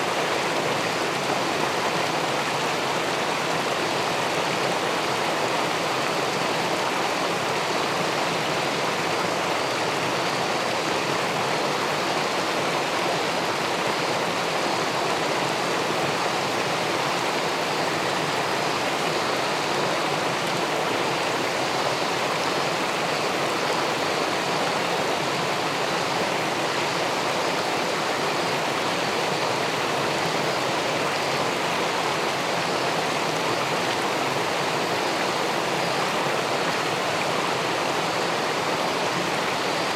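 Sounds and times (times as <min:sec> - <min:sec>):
water rushing over a weir: 0:00.0 - 0:39.9.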